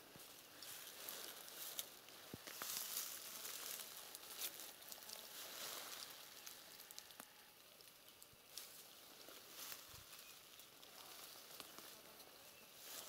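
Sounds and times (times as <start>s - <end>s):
rustling of dry grass and leaves: 0.0s - 13.0s
twigs clicking: 0.2s - 12.1s.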